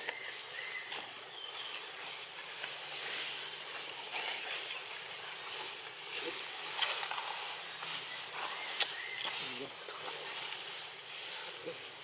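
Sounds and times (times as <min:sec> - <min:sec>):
outdoor background hiss: 0:00.0 - 0:12.0
rustles: 0:00.0 - 0:12.0.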